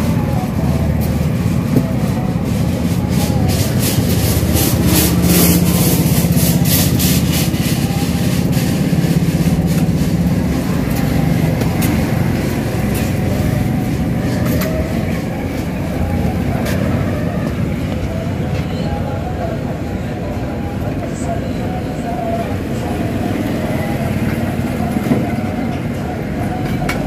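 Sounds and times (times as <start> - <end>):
engine hum: 0.0 - 27.0.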